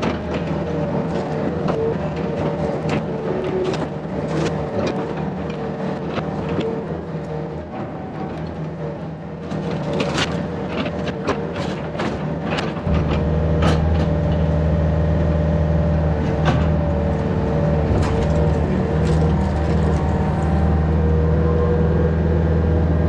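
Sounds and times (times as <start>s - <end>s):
diesel engine under load: 0.0s - 23.0s.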